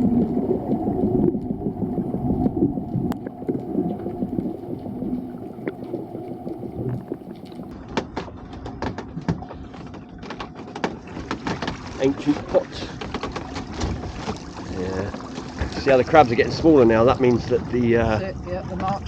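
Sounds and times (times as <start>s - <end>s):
water and boat rumble: 0.0s - 19.0s.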